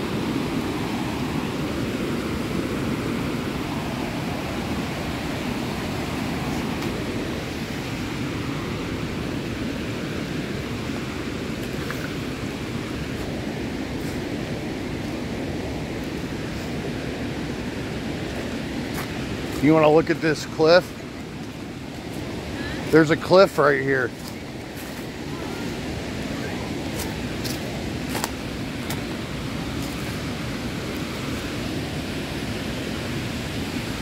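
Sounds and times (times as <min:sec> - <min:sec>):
creek water rushing over rocks: 0:00.0 - 0:34.0.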